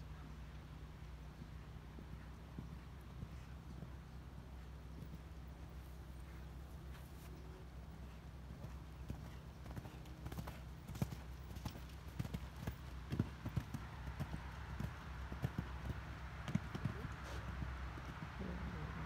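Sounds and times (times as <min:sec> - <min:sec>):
low steady rumble: 0:00.0 - 0:19.0
hoofbeats on sand: 0:01.4 - 0:18.4.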